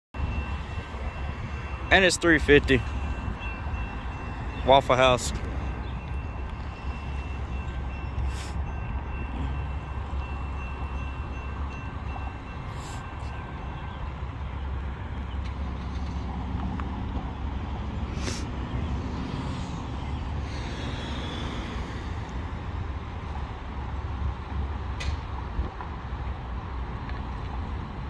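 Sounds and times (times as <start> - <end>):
road traffic rumble: 0.2 - 28.0.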